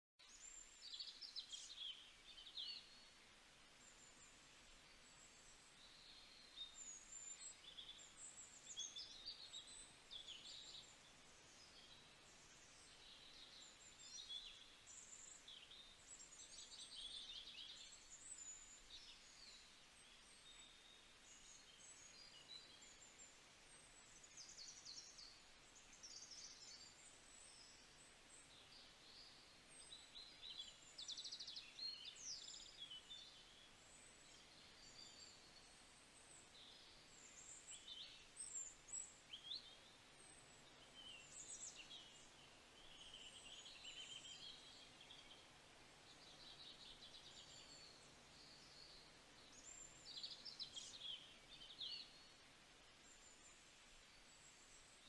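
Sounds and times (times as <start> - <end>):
low steady hiss: 0.2 - 55.0
songbirds chirping and trilling: 0.2 - 55.0.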